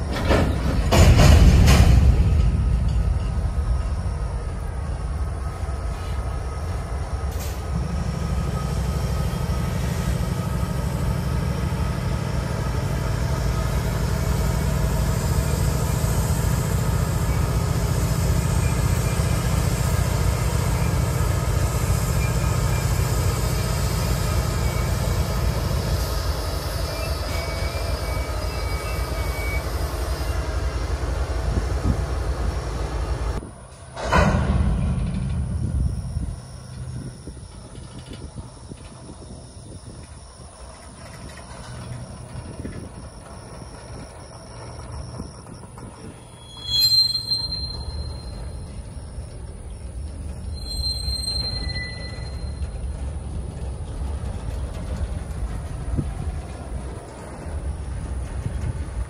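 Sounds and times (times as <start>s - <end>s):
diesel locomotive engine rumble: 0.0s - 59.0s
train wheels on rails: 0.0s - 59.0s.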